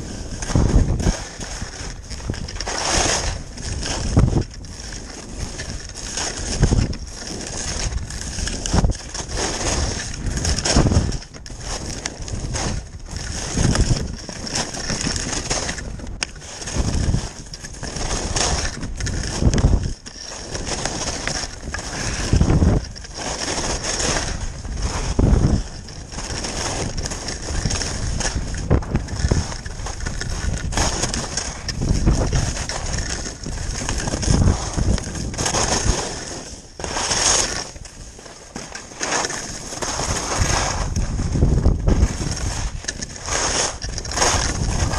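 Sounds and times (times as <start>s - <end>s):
wind buffeting microphone: 0.0s - 37.9s, 39.7s - 44.9s
skis scraping over packed snow: 0.0s - 44.9s.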